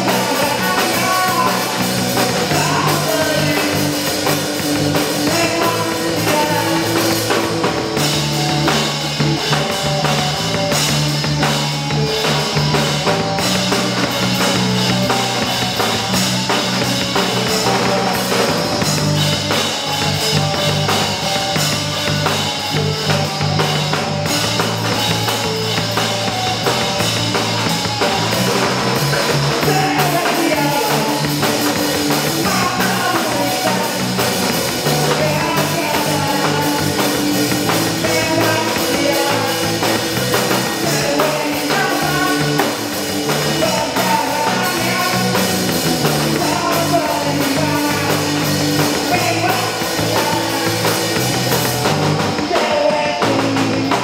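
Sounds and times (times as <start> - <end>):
bass guitar: 0.0 - 54.0
drum kit: 0.0 - 54.0
electric guitar: 0.0 - 54.0
rock band playing live: 0.0 - 54.0.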